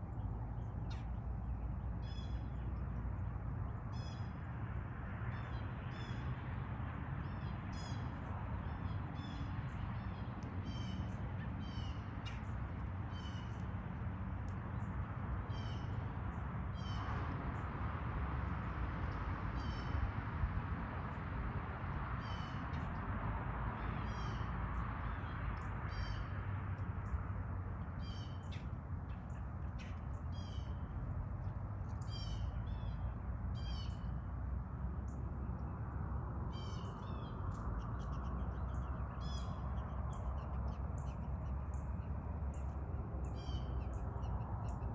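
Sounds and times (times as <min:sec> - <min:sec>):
steady low rumble: 0:07.2 - 0:44.9.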